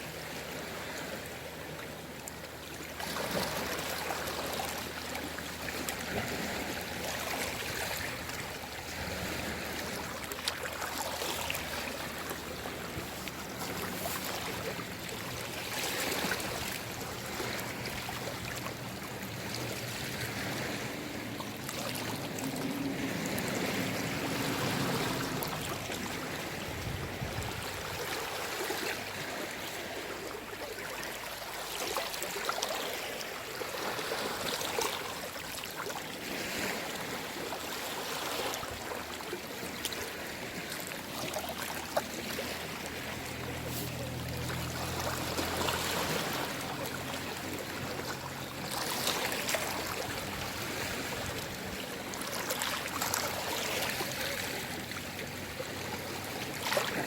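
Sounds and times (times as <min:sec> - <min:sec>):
sea waves lapping: 0:00.0 - 0:57.0.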